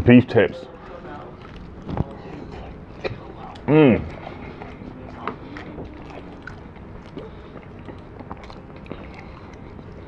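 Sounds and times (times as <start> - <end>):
person chewing food: 0.8 - 10.0.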